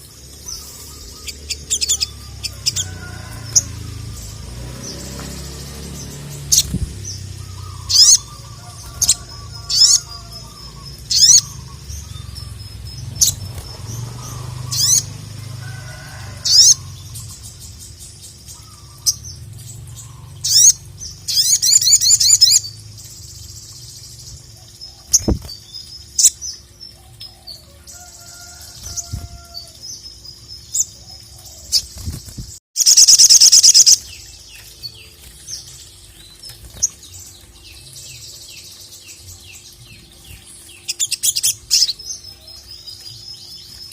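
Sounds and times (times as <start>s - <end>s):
sunbird chipping and trilling: 0.0s - 43.9s.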